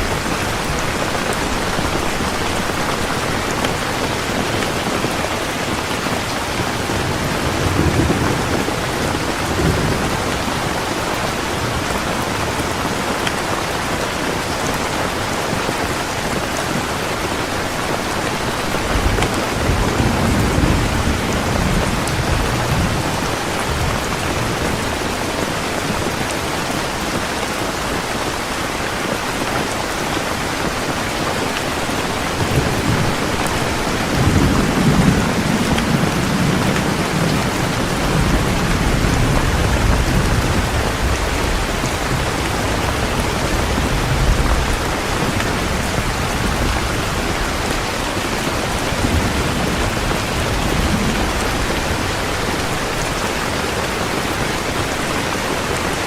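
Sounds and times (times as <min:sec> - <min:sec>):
thunder rumbling: 0:00.0 - 0:13.2, 0:17.4 - 0:26.2, 0:30.4 - 0:55.5
heavy rain: 0:00.0 - 0:56.0.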